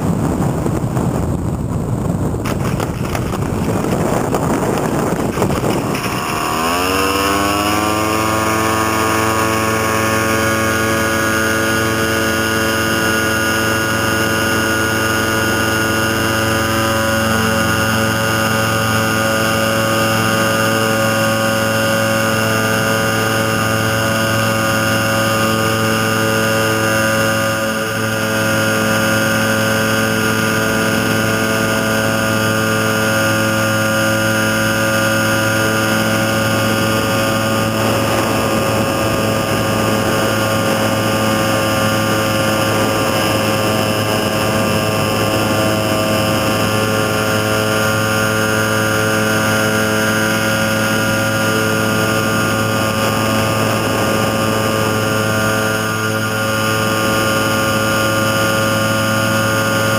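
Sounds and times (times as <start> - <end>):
small engine and propeller: 0.0 - 59.9.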